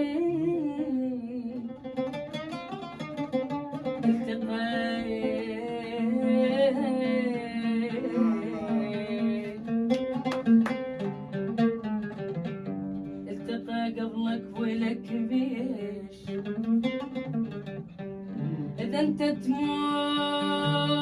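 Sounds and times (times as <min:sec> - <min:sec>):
plucked string accompaniment: 0:00.0 - 0:21.0.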